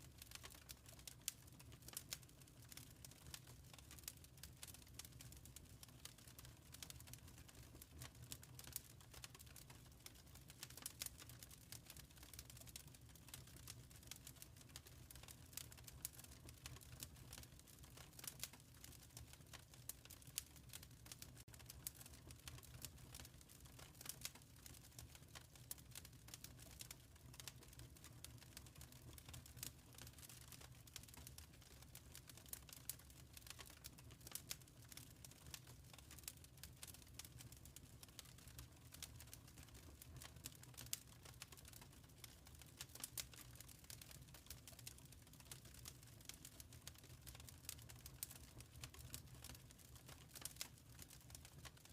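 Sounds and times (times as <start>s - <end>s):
low steady fire rumble: 0.0s - 51.9s
wood fire crackling and popping: 0.1s - 51.9s.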